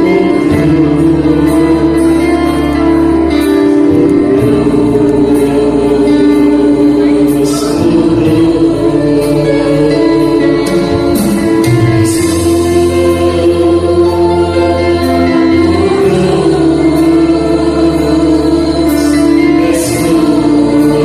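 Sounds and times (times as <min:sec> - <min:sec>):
group singing a hymn: 0:00.0 - 0:21.0
instrumental backing: 0:00.0 - 0:21.0.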